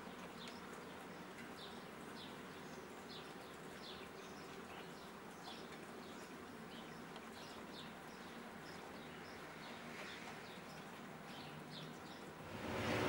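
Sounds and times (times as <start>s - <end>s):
light rain hiss: 0.0s - 13.0s
small birds chirping: 0.0s - 13.0s.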